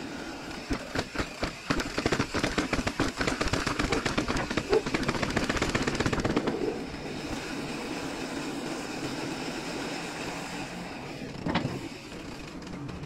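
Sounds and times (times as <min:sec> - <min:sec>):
bike tyres rolling on concrete: 0:00.0 - 0:13.0.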